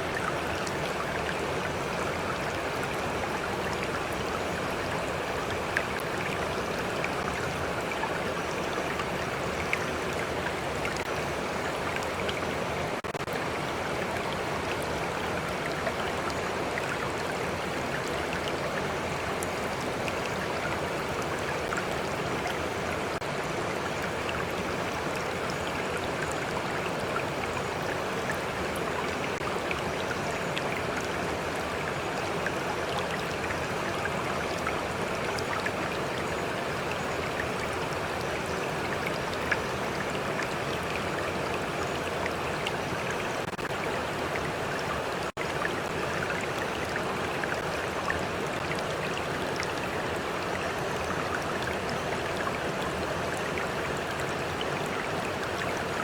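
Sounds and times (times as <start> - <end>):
stream of water flowing: 0.0 - 56.0.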